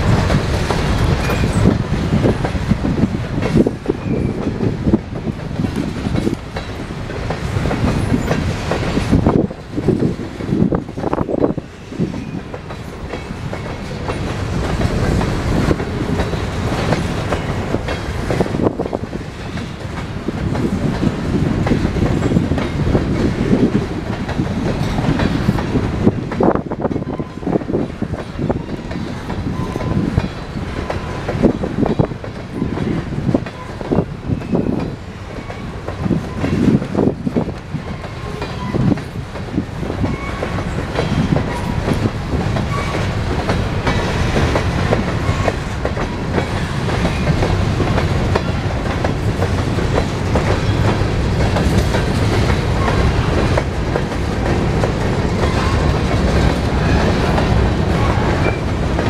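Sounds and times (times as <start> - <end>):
freight train rumble: 0.0 - 59.0
wheels clacking over rail joints: 0.0 - 59.0.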